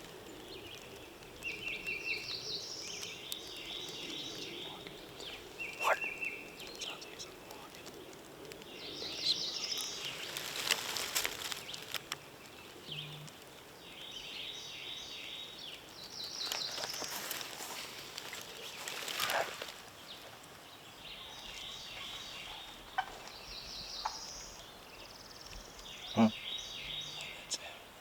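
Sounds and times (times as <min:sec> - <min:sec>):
rustling in dry leaves: 0:00.0 - 0:27.4
songbirds trilling: 0:00.0 - 0:28.0.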